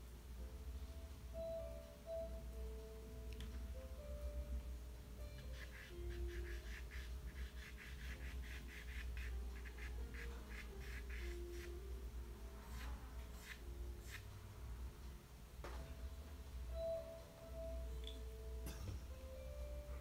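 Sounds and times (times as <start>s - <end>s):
soft held music notes: 0.0s - 20.0s.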